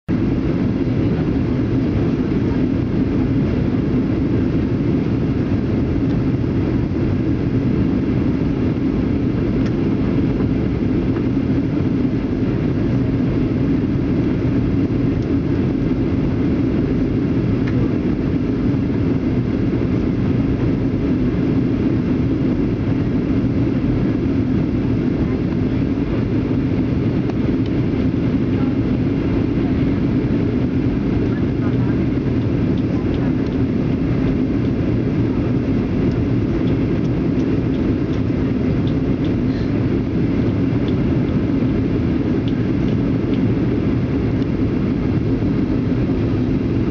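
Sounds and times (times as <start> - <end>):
airliner cabin drone: 0.1 - 46.9.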